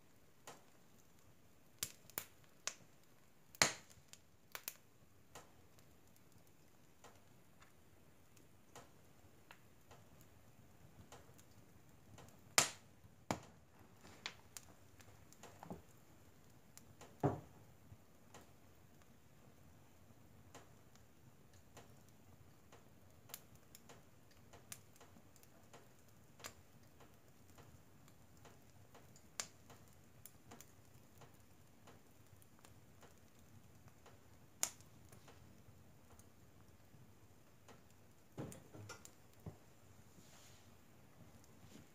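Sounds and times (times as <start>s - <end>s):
wood fire crackling: 0.0s - 41.9s
sharp pops of burning wood: 0.2s - 19.6s, 20.3s - 39.9s
sharp loud fire snaps: 0.2s - 39.4s.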